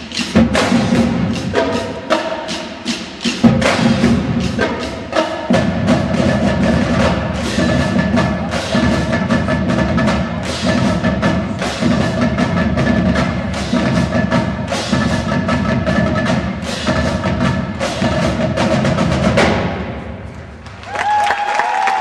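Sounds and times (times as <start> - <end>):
drum line percussion: 0.0 - 22.0.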